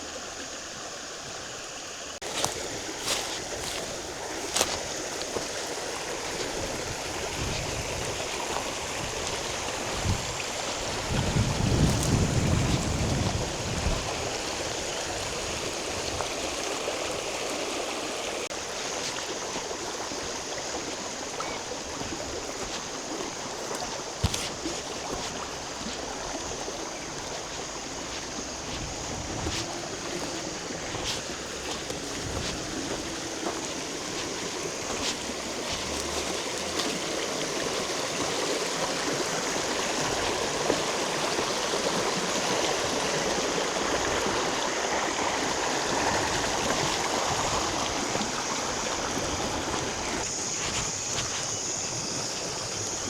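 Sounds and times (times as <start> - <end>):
water flowing: 0.0 - 53.0.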